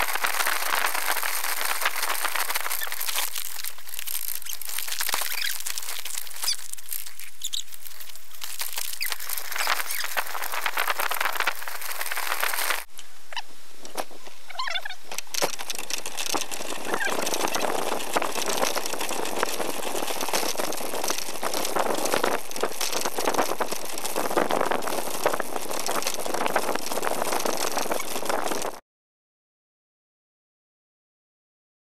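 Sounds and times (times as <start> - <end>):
bicycle rattle: 0.0 - 12.9, 14.6 - 28.8
bicycle tyre noise: 0.0 - 12.9, 14.5 - 28.8
wind: 0.0 - 28.8.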